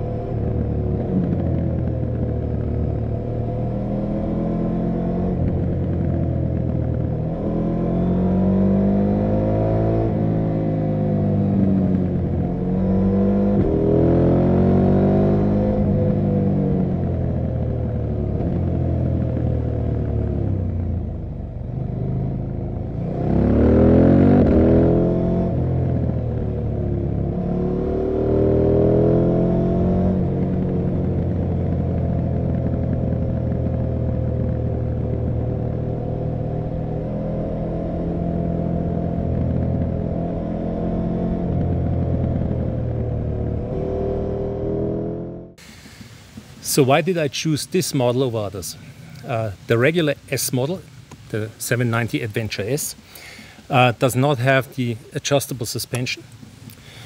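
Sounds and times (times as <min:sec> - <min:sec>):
motorcycle engine revving: 0:00.0 - 0:45.6.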